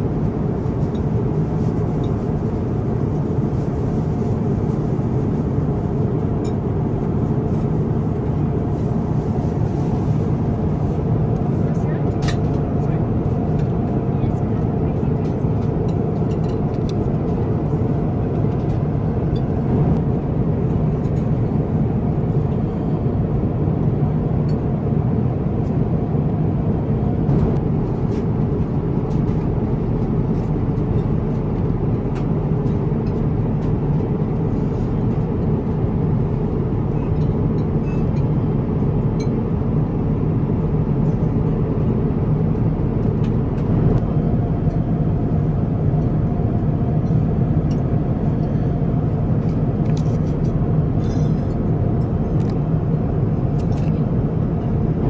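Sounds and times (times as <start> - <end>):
aircraft cabin noise: 0.0 - 55.0.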